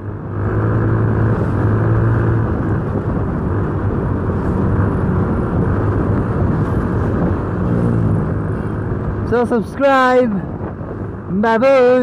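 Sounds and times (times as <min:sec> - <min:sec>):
road noise: 0:00.0 - 0:12.0
rushing wind: 0:00.0 - 0:12.0.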